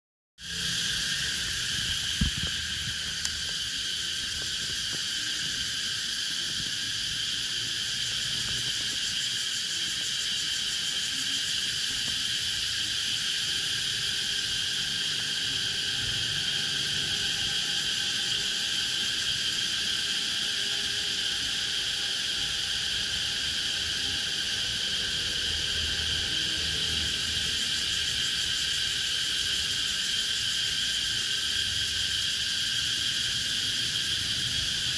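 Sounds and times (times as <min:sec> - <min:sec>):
cicadas singing: 0:00.4 - 0:34.9.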